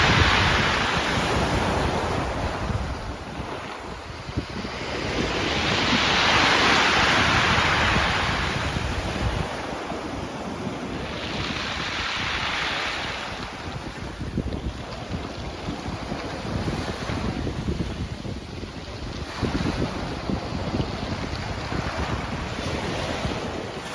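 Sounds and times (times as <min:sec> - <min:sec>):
sea surf washing ashore: 0:00.0 - 0:23.9
wind rumbling on microphone: 0:00.0 - 0:23.9.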